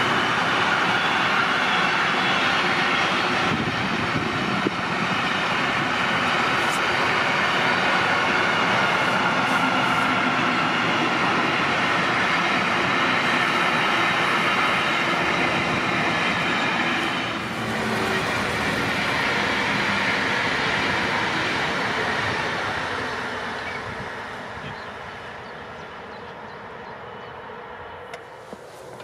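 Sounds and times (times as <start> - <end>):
train wheels on rails: 0.0 - 26.9, 27.6 - 29.0.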